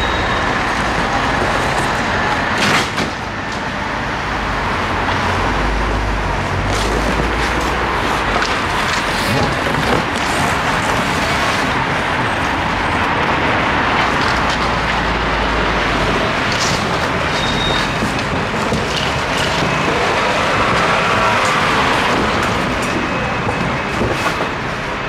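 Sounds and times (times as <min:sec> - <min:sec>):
road traffic rushing: 0:00.0 - 0:25.0.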